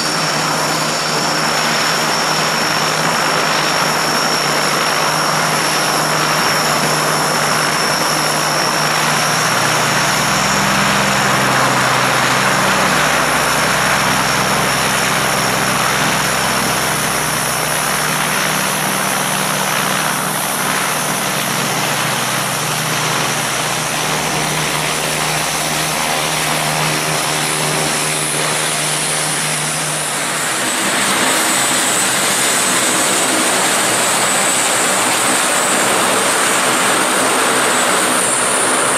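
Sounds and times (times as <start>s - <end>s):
low propeller drone: 0.0s - 38.9s
taxiing turboprop higher whine: 0.0s - 38.9s
turboprop turbine whine: 0.0s - 38.9s.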